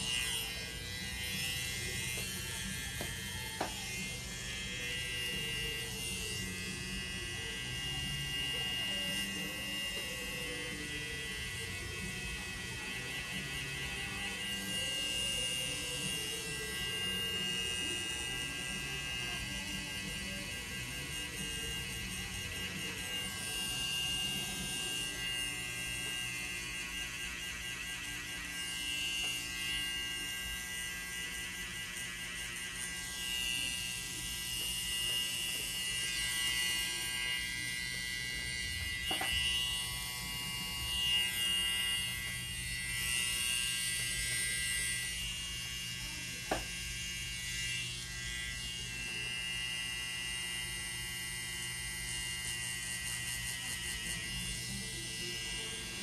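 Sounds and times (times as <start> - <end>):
tattoo machine buzzing: 0.0 - 56.0.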